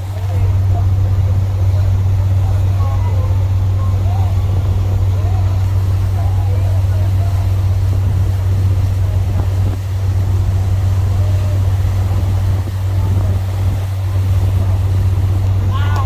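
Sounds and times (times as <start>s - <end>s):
boat engine droning: 0.0s - 16.0s
faint voices: 0.0s - 16.0s.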